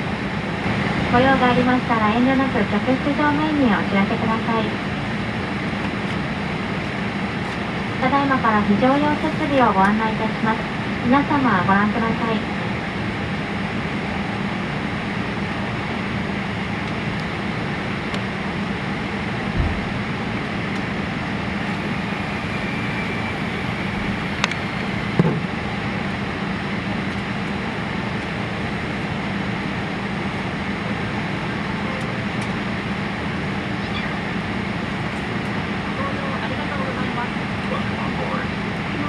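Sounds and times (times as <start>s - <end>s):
airliner cabin hum: 0.0s - 39.0s.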